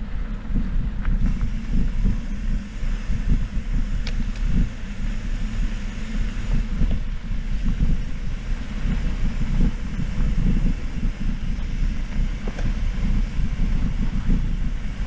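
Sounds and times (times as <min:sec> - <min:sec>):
bike tyre and frame noise: 0:00.0 - 0:15.0
wind buffeting microphone: 0:00.0 - 0:15.0
bike clicks: 0:00.2 - 0:15.0.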